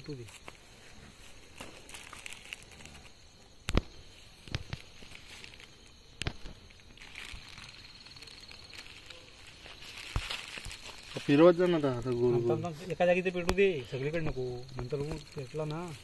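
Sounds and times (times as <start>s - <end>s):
crickets chirping: 0.0s - 16.0s
fire crackling and popping: 0.0s - 16.0s.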